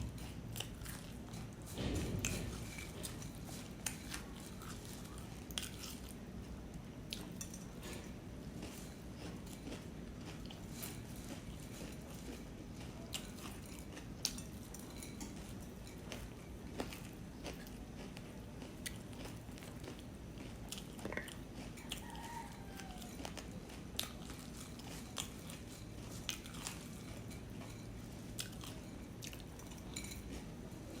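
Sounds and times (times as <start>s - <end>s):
person chewing crunchy food: 0.0s - 31.0s.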